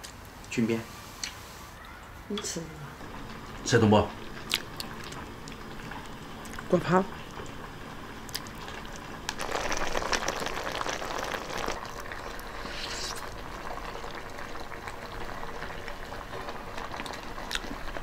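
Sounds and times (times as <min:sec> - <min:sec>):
stew bubbling in a pot: 0:03.0 - 0:18.0.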